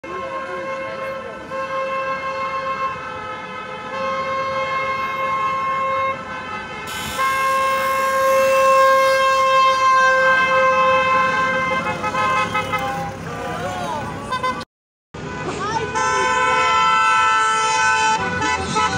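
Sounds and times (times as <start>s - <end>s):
car horns blasting: 0.0s - 14.6s, 15.2s - 18.9s.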